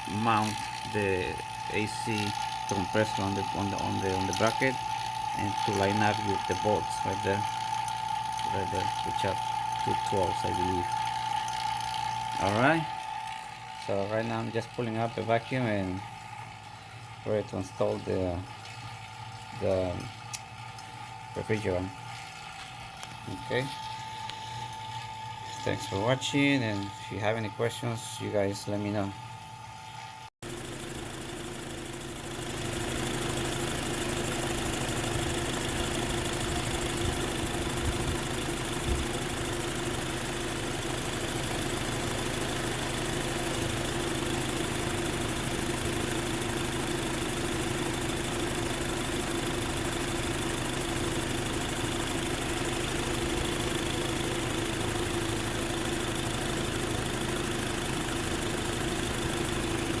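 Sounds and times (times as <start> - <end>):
car engine idling: 0.0 - 26.1, 30.5 - 60.0.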